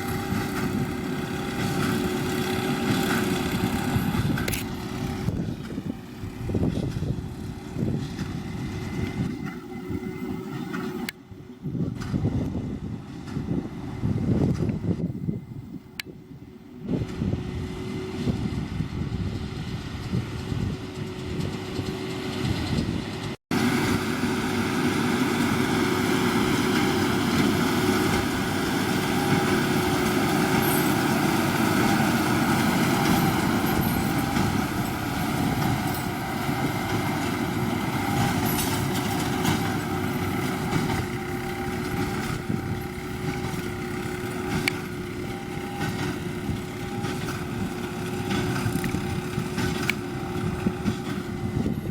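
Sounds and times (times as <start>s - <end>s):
baler machinery whine: 0.0s - 51.9s
tractor engine running under load: 0.0s - 51.9s.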